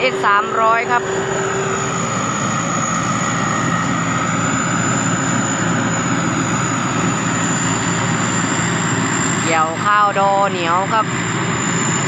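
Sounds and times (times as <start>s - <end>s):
combine harvester engine drone: 0.0s - 12.0s
turbo whine: 0.0s - 12.0s.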